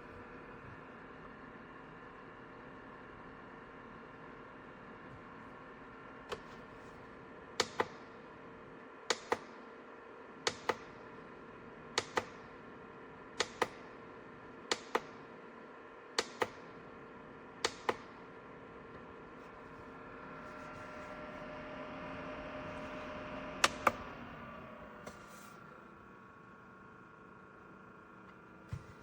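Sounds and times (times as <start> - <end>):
dehumidifier humming: 0.0 - 29.0.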